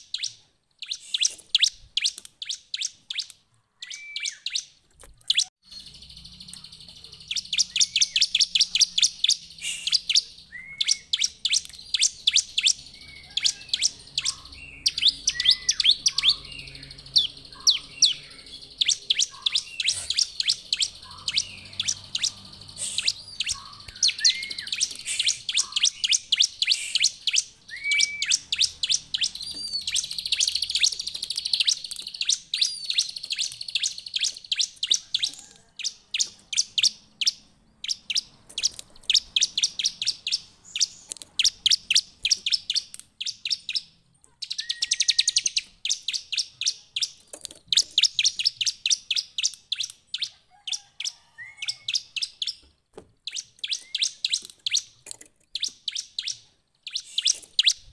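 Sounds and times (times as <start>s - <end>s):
bird singing high chirps: 0.0s - 57.9s.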